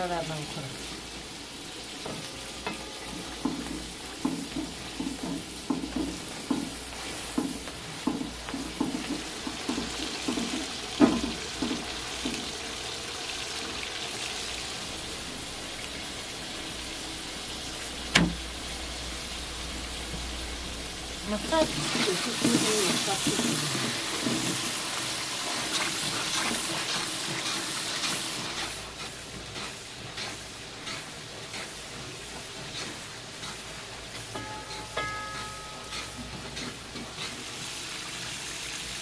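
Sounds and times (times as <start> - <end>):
food sizzling: 0.0 - 39.0.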